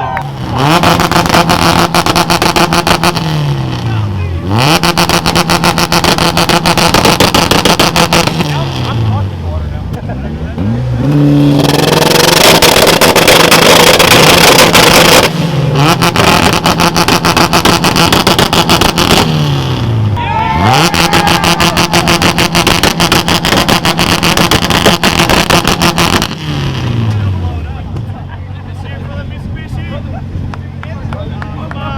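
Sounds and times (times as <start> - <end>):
car engine on rev limiter: 0.0 - 28.1
exhaust popping and banging: 0.2 - 3.9, 4.6 - 9.2, 9.8 - 28.2.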